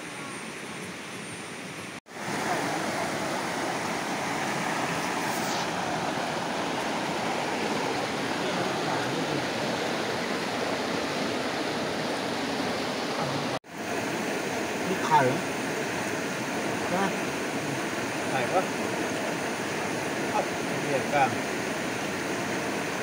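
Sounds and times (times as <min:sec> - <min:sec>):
stream water running over rocks: 0:00.0 - 0:23.0.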